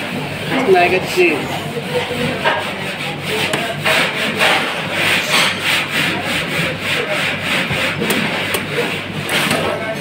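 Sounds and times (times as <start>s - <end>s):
cheese scraping on hand grater: 0.4s - 10.0s.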